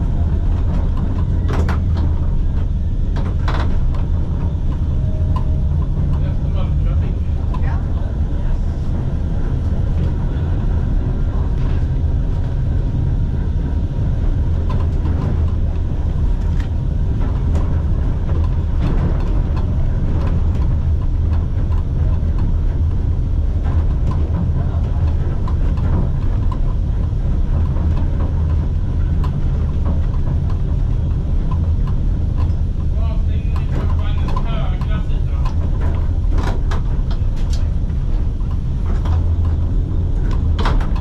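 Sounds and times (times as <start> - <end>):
tram rumbling along track: 0.0 - 41.0.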